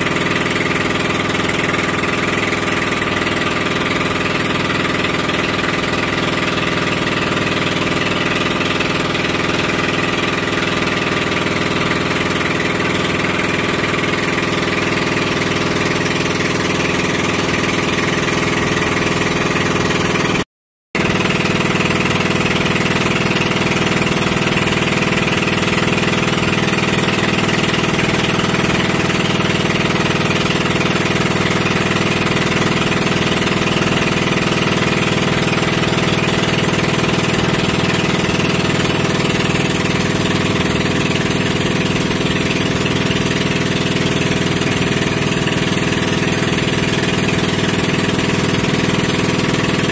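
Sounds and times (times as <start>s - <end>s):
water noise: 0.0s - 20.4s, 21.0s - 49.9s
boat engine running: 0.0s - 49.9s.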